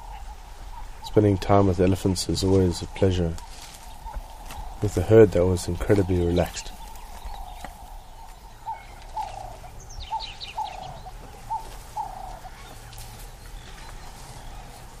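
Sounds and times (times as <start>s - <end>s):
bird call notes: 0.0s - 15.0s
high bird chirps: 2.8s - 14.9s.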